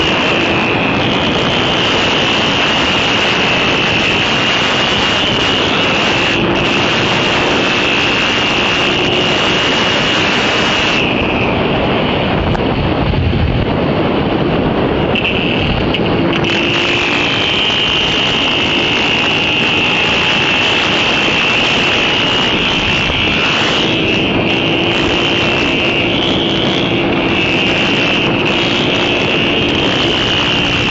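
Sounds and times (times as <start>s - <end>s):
motorcycle engine whine: 0.0s - 30.9s
wind noise on microphone: 0.0s - 30.9s.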